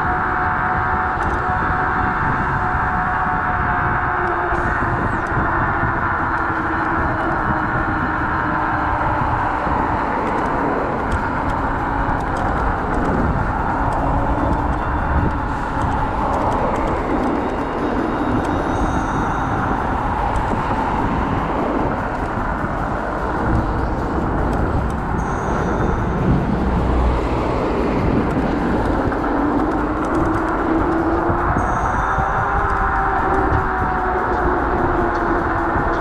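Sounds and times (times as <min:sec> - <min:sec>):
tyres on road: 0:00.0 - 0:36.0
wind on microphone: 0:00.0 - 0:36.0.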